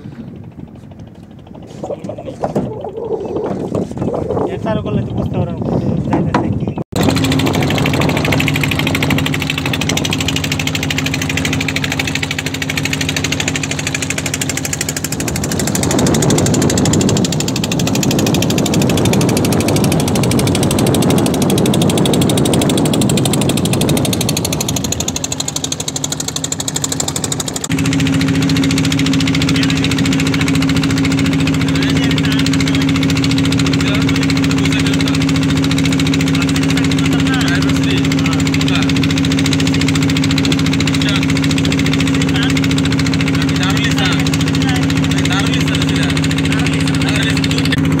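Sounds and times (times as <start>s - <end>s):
boat engine knocking: 0.0s - 48.0s.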